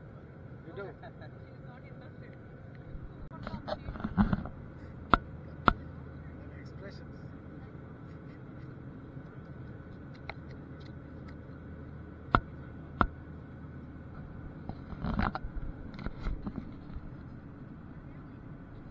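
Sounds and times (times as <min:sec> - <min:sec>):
airliner cabin hum: 0:00.0 - 0:18.9.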